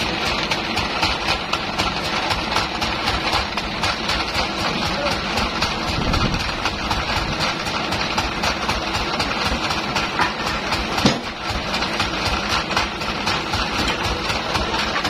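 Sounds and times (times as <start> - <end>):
band saw humming and ticking: 0.0 - 15.0.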